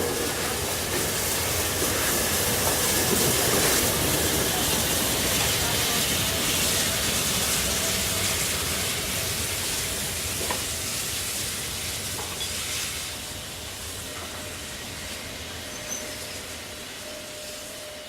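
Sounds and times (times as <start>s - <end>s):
heavy rain hissing: 0.0s - 17.0s
steam locomotive hissing steam: 0.0s - 18.0s.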